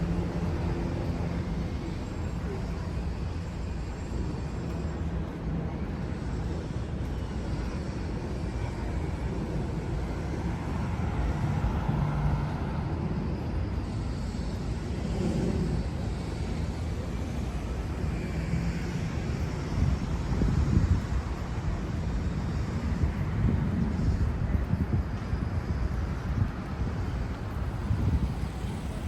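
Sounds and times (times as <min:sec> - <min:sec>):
city street traffic hum: 0:00.0 - 0:29.0.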